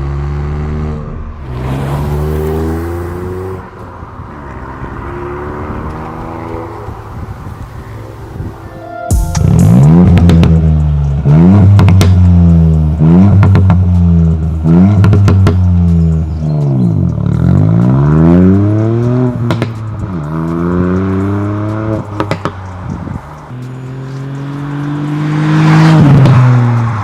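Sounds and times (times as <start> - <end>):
car engine accelerating hard: 0.0 - 8.7, 9.4 - 27.0.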